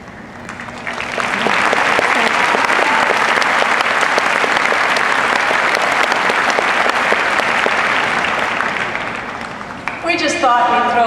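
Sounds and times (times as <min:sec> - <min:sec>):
large audience applauding: 0:00.4 - 0:10.0.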